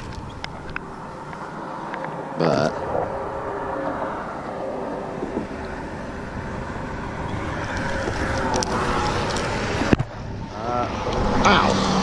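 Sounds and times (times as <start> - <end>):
road traffic rumble: 0.0 - 12.0
vehicle approaching: 0.0 - 12.0.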